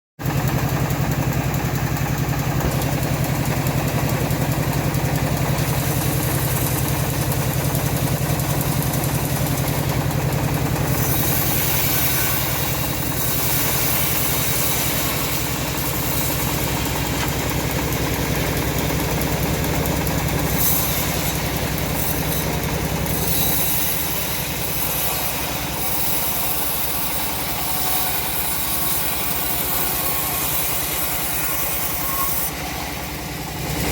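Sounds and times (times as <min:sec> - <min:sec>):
engine-driven bandsaw mill drone: 0:00.2 - 0:33.9
saw cutting wood: 0:00.2 - 0:33.9.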